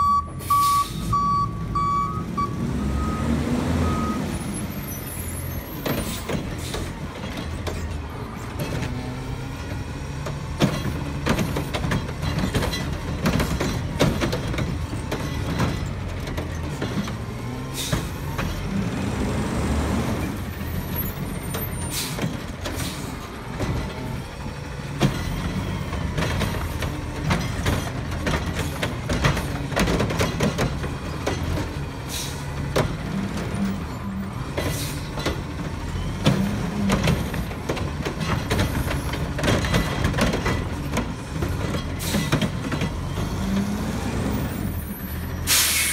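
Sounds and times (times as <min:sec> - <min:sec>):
garbage truck diesel engine: 0:00.0 - 0:45.9.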